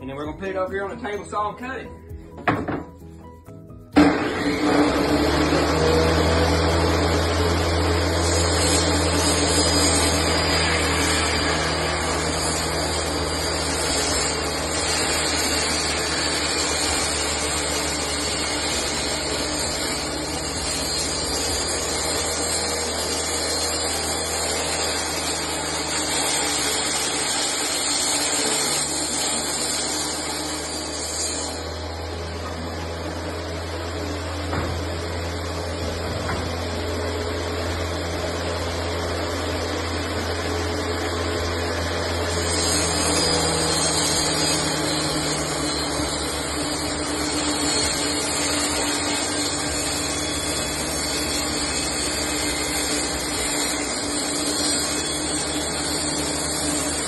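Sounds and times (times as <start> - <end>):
saw blade cutting wood: 0.0 - 57.0
table saw running: 4.0 - 57.0.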